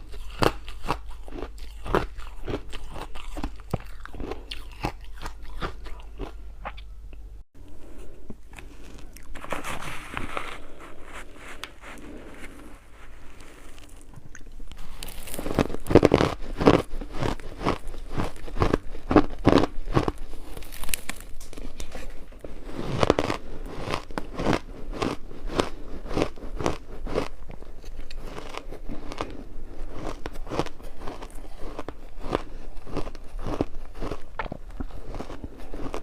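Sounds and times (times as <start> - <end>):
ice being chewed: 0.0 - 6.9, 8.3 - 36.0.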